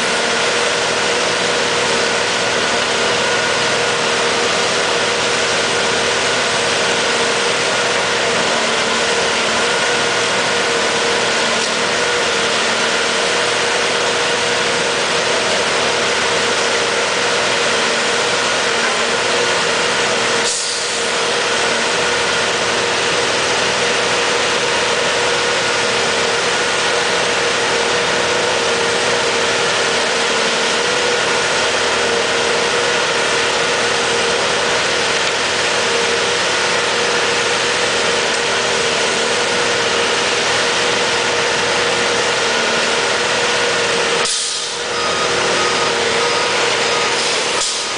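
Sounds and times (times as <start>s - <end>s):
machine engine and hydraulics running: 0.0s - 47.9s.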